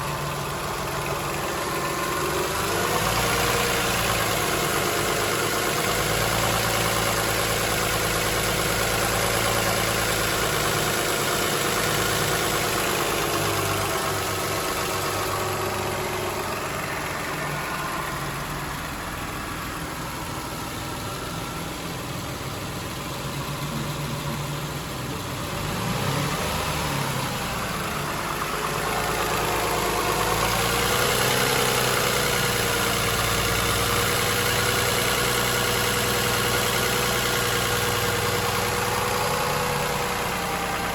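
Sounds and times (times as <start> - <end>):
car engine idling with rattle: 0.0 - 40.9.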